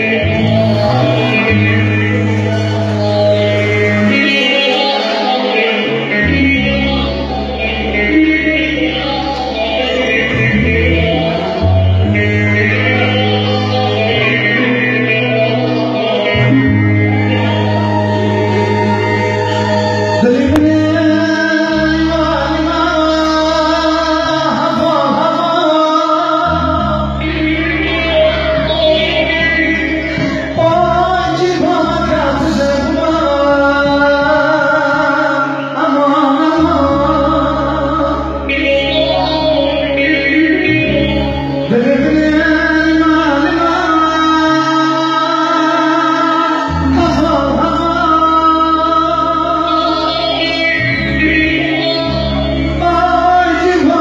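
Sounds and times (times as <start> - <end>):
person singing ornamented vocals: 0.0 - 54.0.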